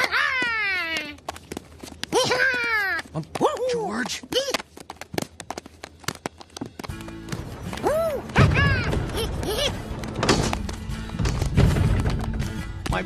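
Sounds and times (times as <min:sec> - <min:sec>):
sharp taps and clicks: 0:00.9 - 0:11.5.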